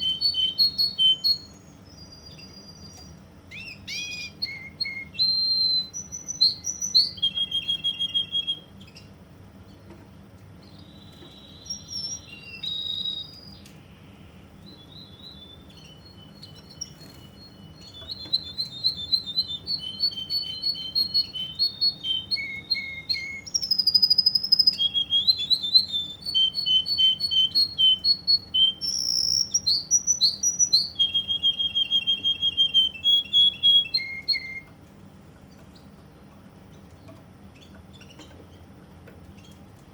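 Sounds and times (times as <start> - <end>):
canary singing trills: 0.0 - 9.9, 10.5 - 34.8, 36.6 - 39.9.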